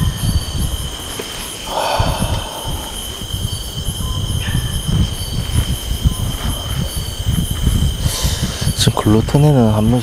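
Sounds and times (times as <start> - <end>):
night insects chirping: 0.0 - 10.0
rustling hiss: 0.0 - 10.0.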